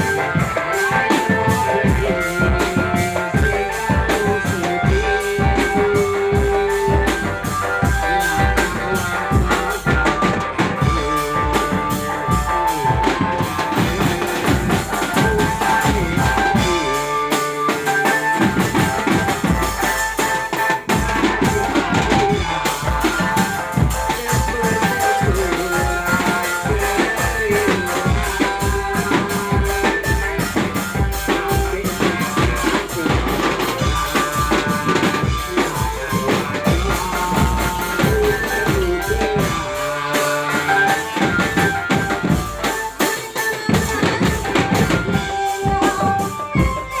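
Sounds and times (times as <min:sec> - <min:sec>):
bass drum beat: 0:00.0 - 0:43.0
street drum band playing: 0:00.0 - 0:47.0
sustained melody line: 0:00.0 - 0:47.0.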